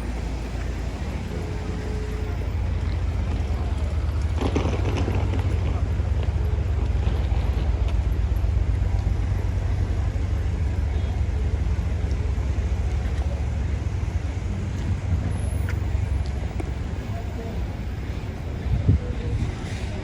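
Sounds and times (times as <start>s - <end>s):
cars passing: 0.0s - 20.0s
tyres hissing on wet asphalt: 0.0s - 20.0s.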